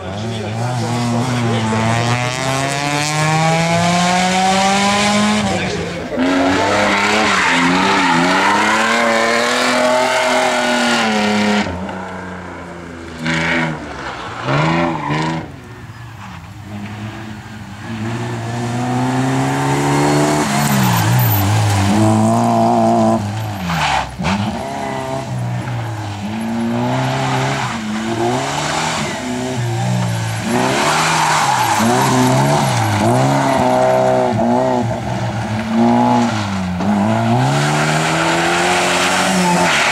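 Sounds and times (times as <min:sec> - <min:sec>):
rally car engine revving: 0:00.0 - 0:15.7, 0:16.3 - 0:39.9.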